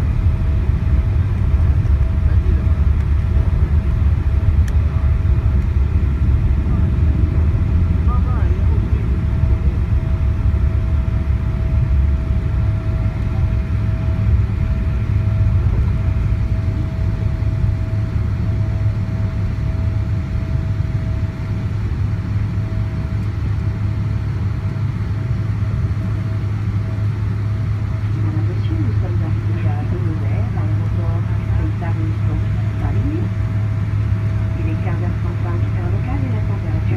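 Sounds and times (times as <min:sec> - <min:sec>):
thin steady whine: 0:00.0 - 0:36.9.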